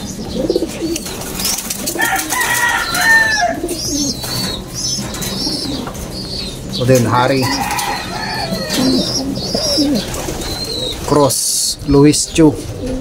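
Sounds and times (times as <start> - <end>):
high chirping calls: 0.0 - 12.9
pigeons cooing: 0.0 - 13.0.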